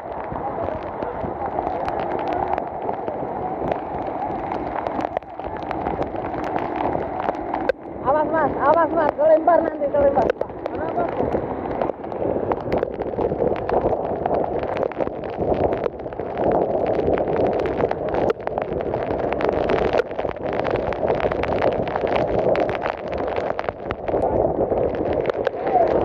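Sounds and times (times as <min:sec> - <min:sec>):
heavy rain: 0:00.0 - 0:26.0
strong wind: 0:00.0 - 0:26.0.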